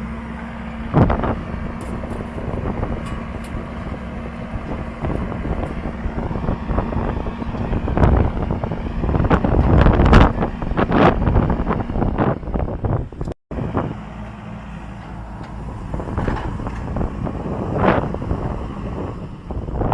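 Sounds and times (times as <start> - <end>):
wind buffeting microphone: 0.5 - 14.2, 15.1 - 19.9.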